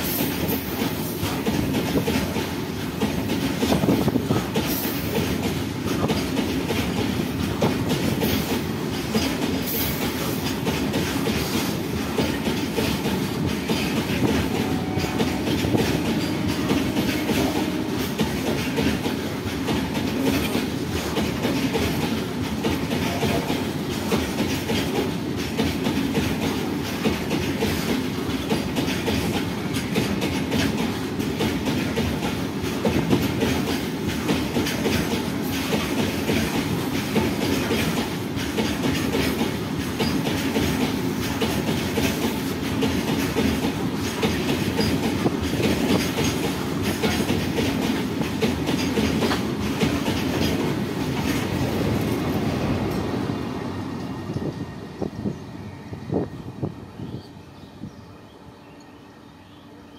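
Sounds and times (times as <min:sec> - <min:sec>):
clickety-clack over rail joints: 0:00.0 - 0:56.7
steel wheels rumbling on rail: 0:00.0 - 0:59.9.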